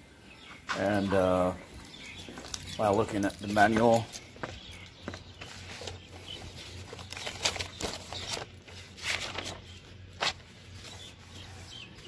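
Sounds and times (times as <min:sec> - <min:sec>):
parts and packaging rustling: 0:02.1 - 0:12.0.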